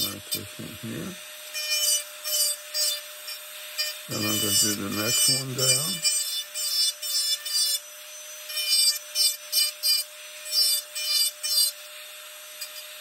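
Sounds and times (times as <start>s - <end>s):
bit grinding into wood: 0.0s - 13.0s
rotary tool whining: 0.0s - 13.0s.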